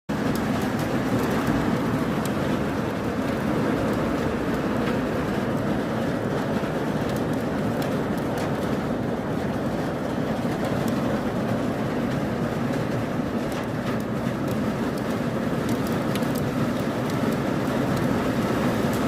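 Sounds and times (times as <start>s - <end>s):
hailstones ticking: 0.1s - 19.0s
heavy rain and hail: 0.1s - 19.0s.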